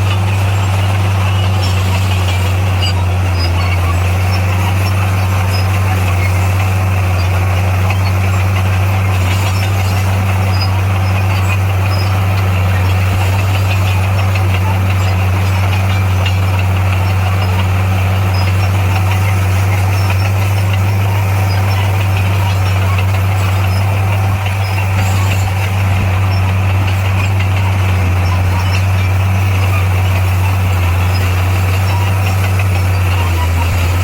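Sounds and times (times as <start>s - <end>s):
heavy diesel engine humming: 0.0s - 34.0s.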